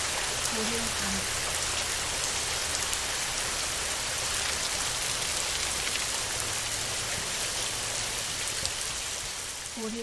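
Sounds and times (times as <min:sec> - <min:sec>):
heavy rain on a tin roof: 0:00.0 - 0:10.0.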